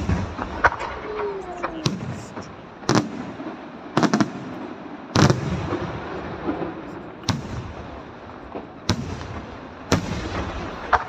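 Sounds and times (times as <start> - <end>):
crackle of burning stars: 0.0 - 11.0.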